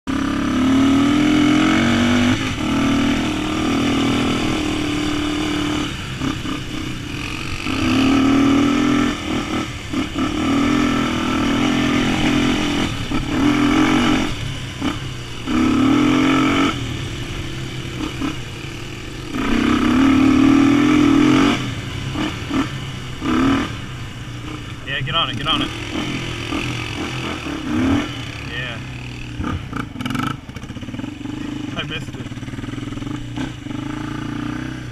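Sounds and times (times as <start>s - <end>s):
dirt bike engine revving: 0.1s - 34.9s
steady rushing noise: 0.9s - 34.9s.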